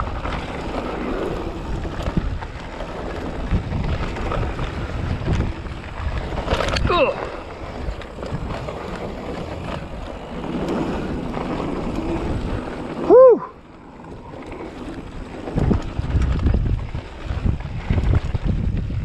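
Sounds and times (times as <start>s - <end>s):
mountain bike rumbling on dirt: 0.0s - 19.0s
wind buffeting microphone: 0.0s - 19.0s.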